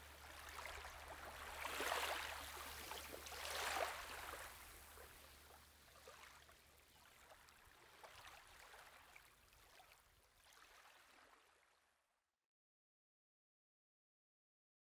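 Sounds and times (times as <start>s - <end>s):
stream trickling and gurgling: 0.0s - 12.1s.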